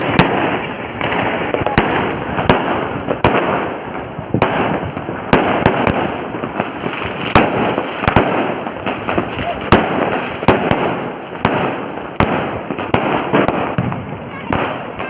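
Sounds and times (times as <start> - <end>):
firecrackers crackling: 0.0 - 15.0
loud firecracker bangs: 0.0 - 15.0.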